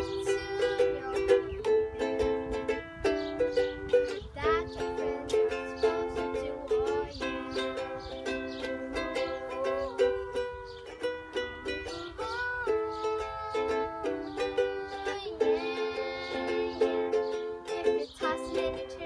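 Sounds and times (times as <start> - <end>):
ukulele strumming: 0.0 - 19.0.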